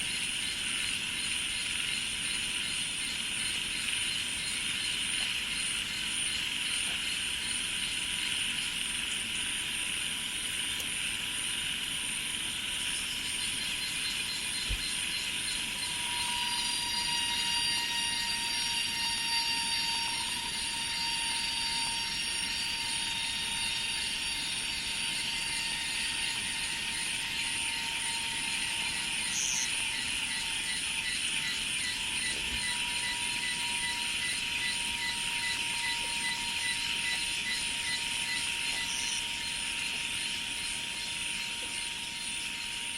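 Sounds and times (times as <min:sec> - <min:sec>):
insects buzzing: 0:00.0 - 0:42.9.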